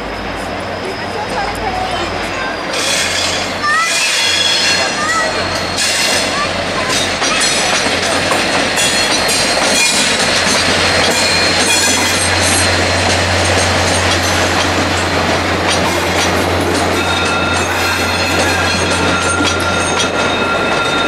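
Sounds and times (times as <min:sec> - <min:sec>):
diesel locomotive engine drone: 0:00.0 - 0:21.0
wheels squealing: 0:00.0 - 0:21.0
wheels clicking over rail joints: 0:00.4 - 0:21.0.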